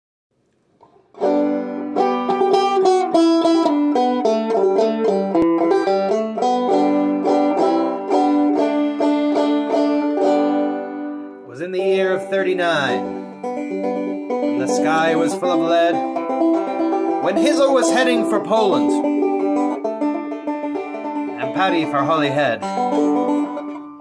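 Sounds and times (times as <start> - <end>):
banjo plucked notes: 0.8 - 24.0.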